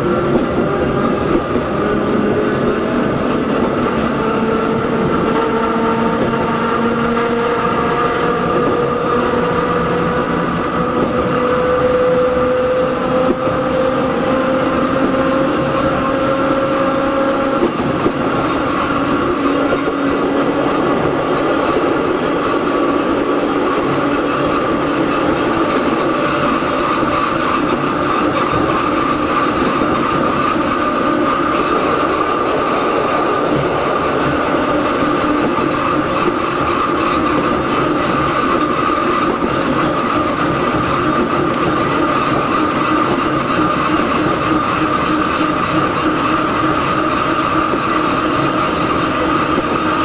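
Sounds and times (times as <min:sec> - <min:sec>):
wheels running on rails: 0:00.0 - 0:50.0.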